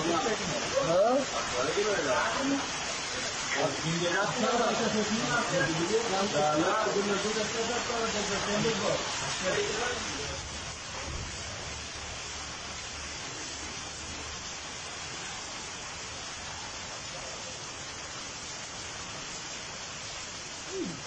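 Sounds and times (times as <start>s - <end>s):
heavy rain and floodwater hiss: 0.0s - 21.0s.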